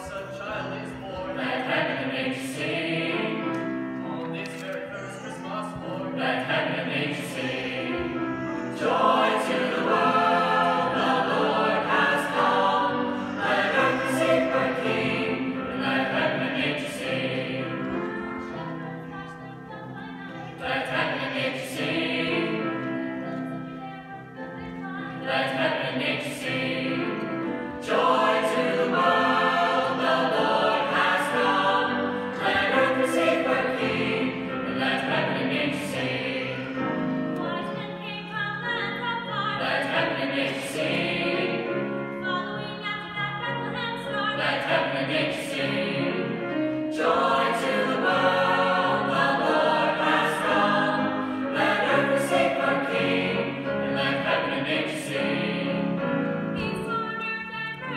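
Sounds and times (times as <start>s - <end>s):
choir singing with accompaniment: 0.0s - 57.9s.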